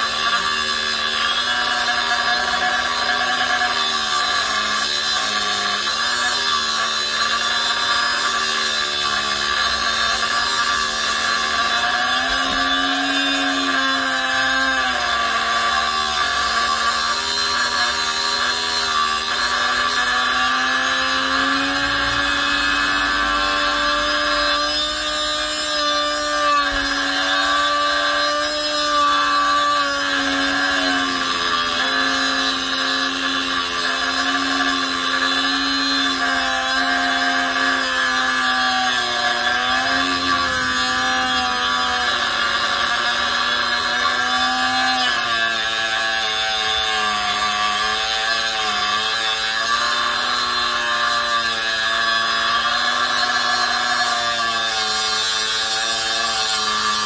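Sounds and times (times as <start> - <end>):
abrasive wheel grinding steel: 0.0 - 57.0
electric cutoff tool motor whine: 0.0 - 57.0.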